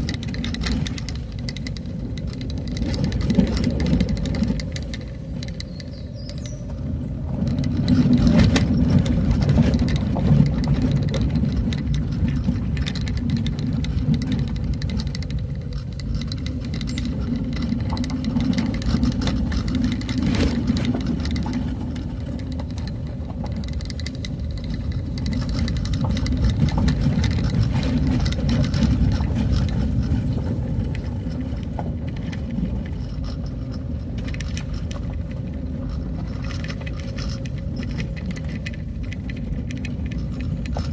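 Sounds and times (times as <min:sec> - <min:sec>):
knocks and rattles: 0:00.0 - 0:06.0, 0:07.3 - 0:40.9
vehicle engine rumbling: 0:00.0 - 0:40.9.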